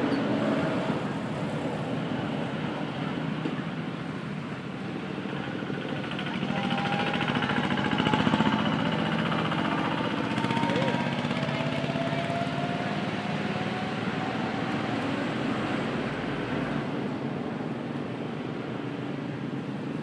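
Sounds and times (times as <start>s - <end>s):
motorbikes passing: 0.0s - 20.0s.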